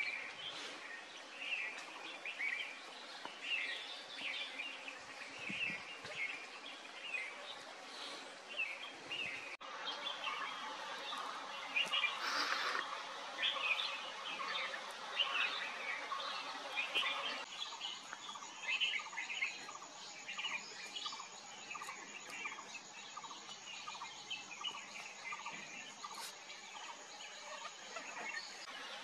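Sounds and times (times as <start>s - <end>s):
wild birds chirping: 0.0s - 29.0s.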